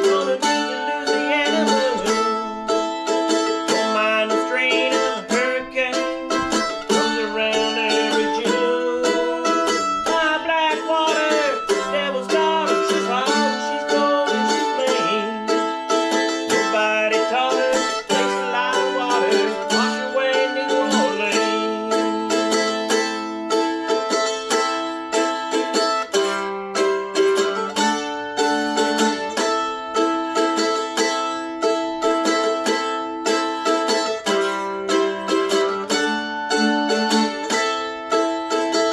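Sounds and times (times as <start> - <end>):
mandolin playing: 0.0 - 38.9.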